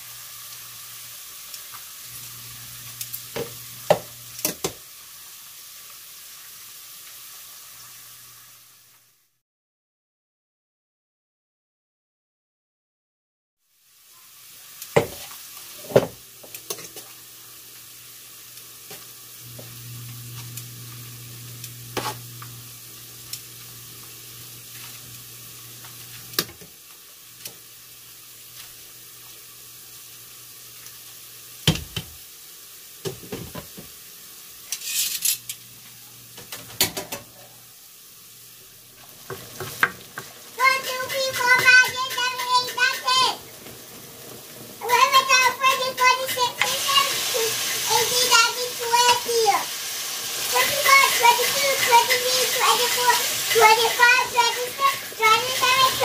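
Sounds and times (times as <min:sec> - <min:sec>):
onions sizzling in frying pan: 0:00.0 - 0:09.4, 0:13.6 - 0:56.0
steady cooking hiss: 0:00.0 - 0:09.4, 0:13.6 - 0:56.0.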